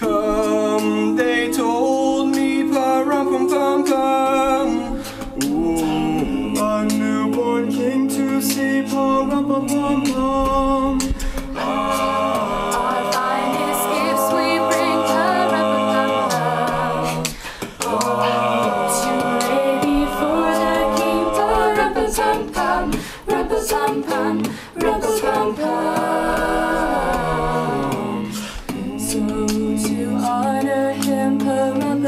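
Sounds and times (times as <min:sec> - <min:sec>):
a cappella group singing harmony: 0:00.0 - 0:32.0.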